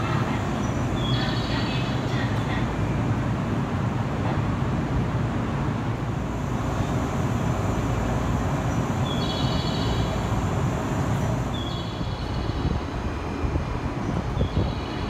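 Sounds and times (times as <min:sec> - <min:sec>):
electric train rumble and hum: 0:00.0 - 0:15.0.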